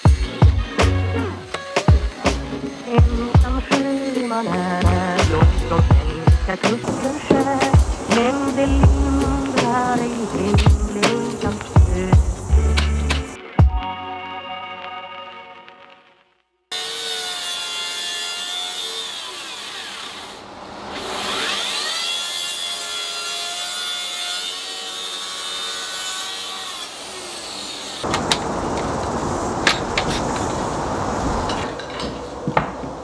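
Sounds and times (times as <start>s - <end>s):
track saw cutting wood: 0.0s - 13.4s, 16.7s - 30.6s.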